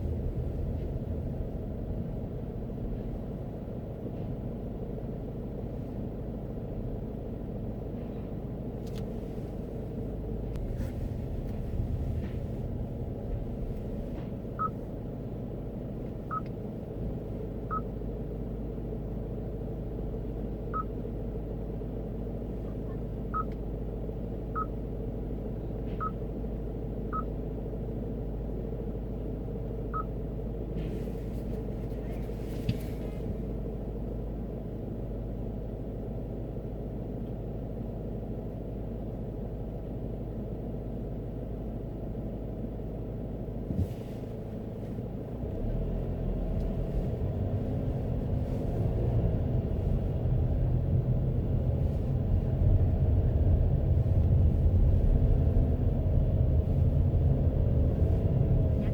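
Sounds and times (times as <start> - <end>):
road and engine rumble: 0.0 - 58.9.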